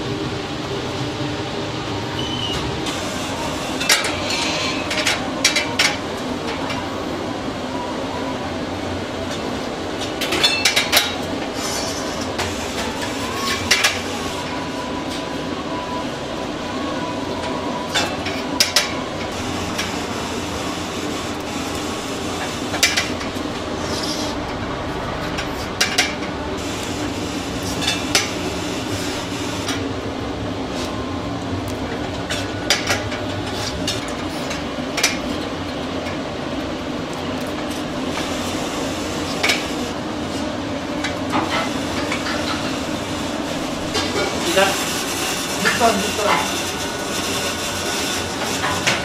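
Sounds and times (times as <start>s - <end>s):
mechanical hum: 0.0s - 49.0s.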